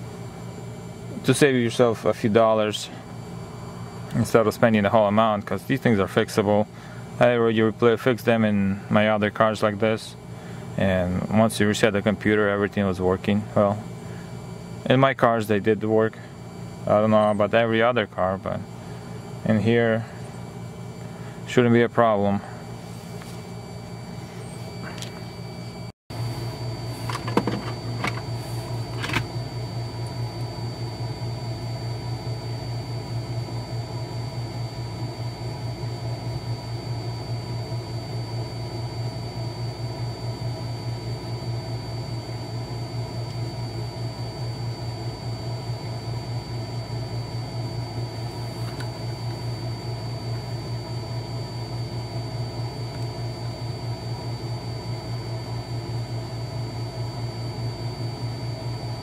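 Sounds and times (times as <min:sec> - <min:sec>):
machine hum: 0:00.0 - 0:59.0
thin high whine: 0:00.0 - 0:59.0.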